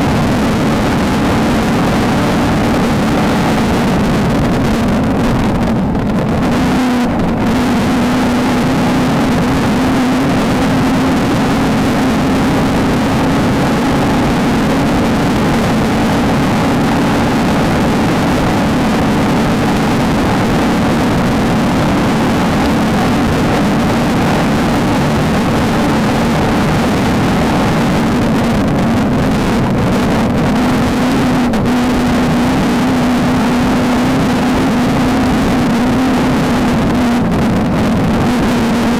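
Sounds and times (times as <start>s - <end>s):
constant rush of noise: 0.0s - 38.9s
race car engine at high revs: 0.0s - 38.9s.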